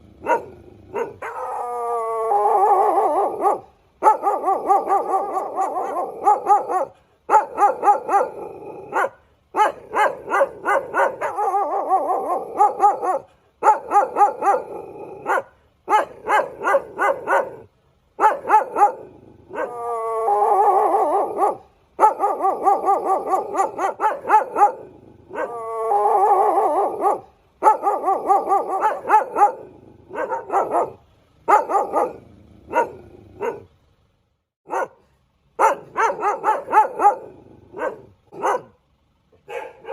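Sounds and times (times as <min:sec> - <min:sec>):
dog barking in high yaps: 0:00.2 - 0:01.6, 0:02.7 - 0:17.6, 0:18.2 - 0:19.8, 0:20.6 - 0:25.6, 0:26.2 - 0:33.7, 0:34.7 - 0:35.0, 0:35.6 - 0:38.8, 0:39.4 - 0:39.9
dog crying: 0:00.2 - 0:17.6, 0:18.2 - 0:33.7.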